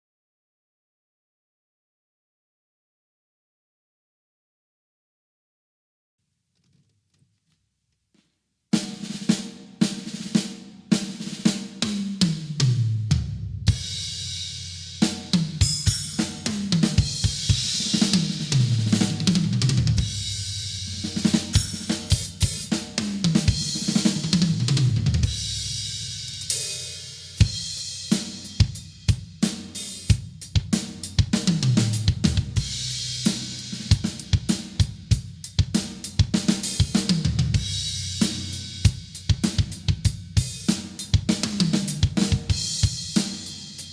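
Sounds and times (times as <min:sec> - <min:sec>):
drum kit playing: 0:08.7 - 0:43.9.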